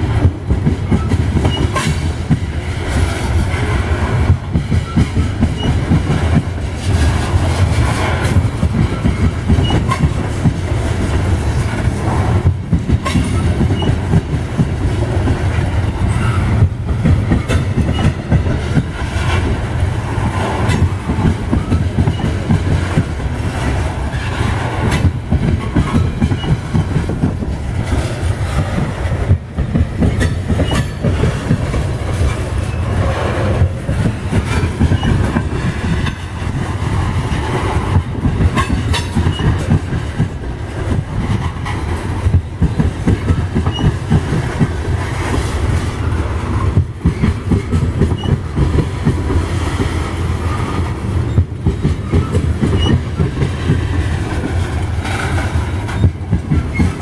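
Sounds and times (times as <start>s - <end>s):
steel wheels rumbling on rails: 0.0s - 57.0s
wheels clicking on track: 0.0s - 57.0s.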